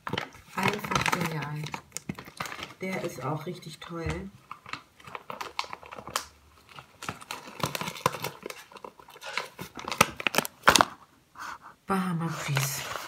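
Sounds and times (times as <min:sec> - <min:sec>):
paper bags crinkling: 0:00.0 - 0:11.0.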